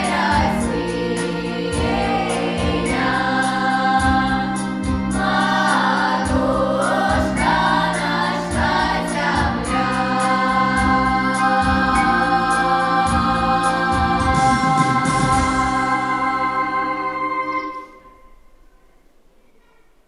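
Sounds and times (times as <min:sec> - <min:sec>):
instrumental backing with beat: 0:00.0 - 0:18.0
voices singing together: 0:00.0 - 0:18.1.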